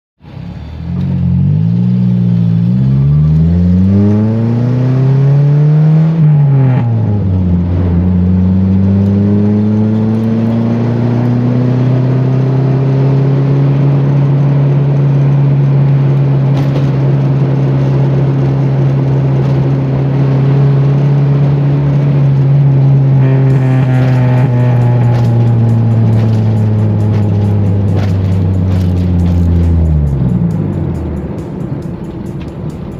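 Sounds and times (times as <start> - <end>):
car engine accelerating: 0.2 - 32.9.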